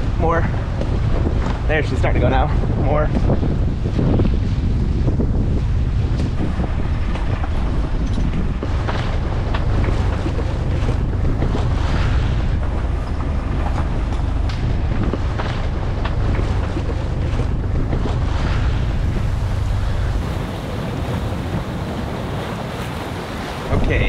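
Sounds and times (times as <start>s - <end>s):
water rushing along hull: 0.0s - 24.0s
wind buffeting microphone: 0.0s - 24.0s.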